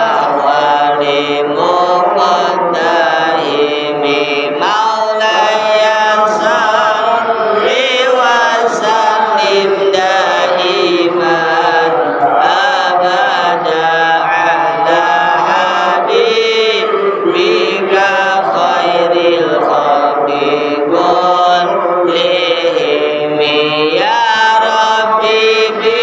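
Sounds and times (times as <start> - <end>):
devotional chanting: 0.0 - 26.0.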